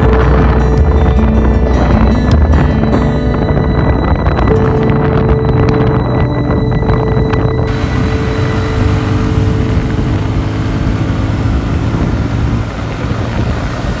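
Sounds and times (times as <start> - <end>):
motorcycle engine running: 0.0 - 14.0
wind rushing over microphone: 0.0 - 14.0.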